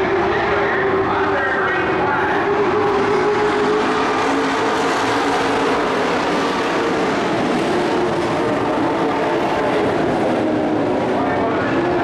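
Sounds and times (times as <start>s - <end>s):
race truck engines running: 0.0s - 12.0s.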